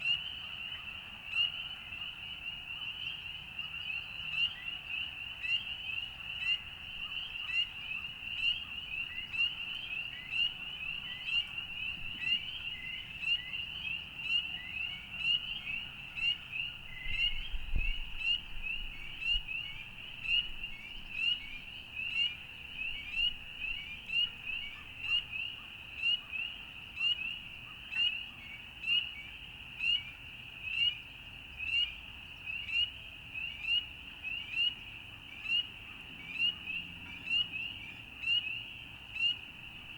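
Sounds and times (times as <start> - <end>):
frogs calling: 0.1 - 39.9.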